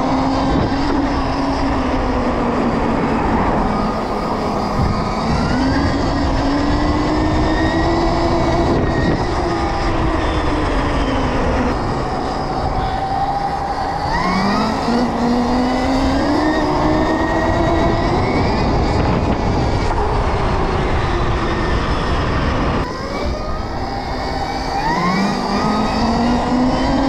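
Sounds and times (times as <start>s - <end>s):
electric motorbike motor whining: 0.0s - 27.0s
rushing wind: 0.0s - 27.0s.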